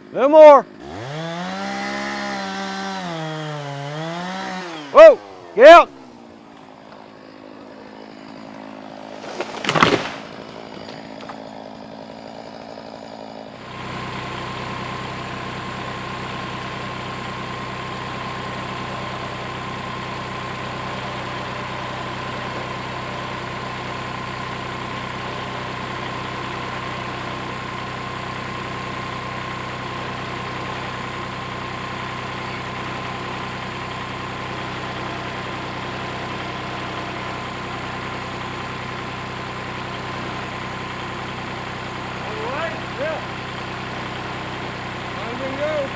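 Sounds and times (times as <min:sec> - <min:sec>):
diesel tractor engine idling: 0:00.0 - 0:09.2, 0:10.6 - 0:45.9.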